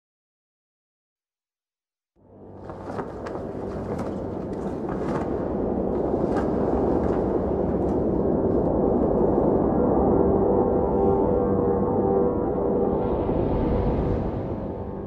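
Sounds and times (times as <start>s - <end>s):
cinematic rumble drone: 2.2s - 15.0s.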